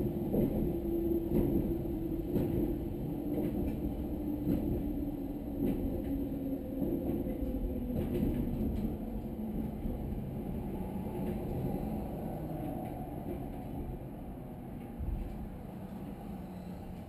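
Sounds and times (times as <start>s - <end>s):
electric train rumbling on track: 0.0s - 17.0s.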